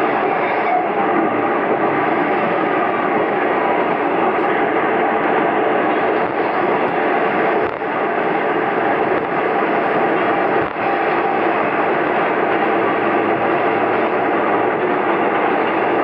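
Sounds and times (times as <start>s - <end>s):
diesel railcar running inside cabin: 0.0s - 16.0s.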